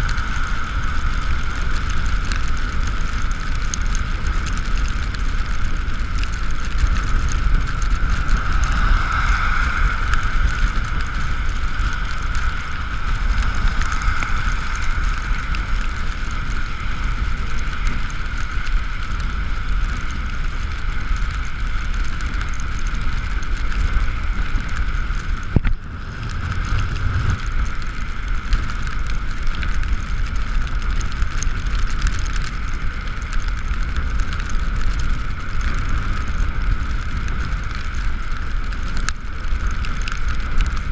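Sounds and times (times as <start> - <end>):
electric scooter whine: 0.0 - 40.9
wind rumble on microphone: 0.0 - 40.9.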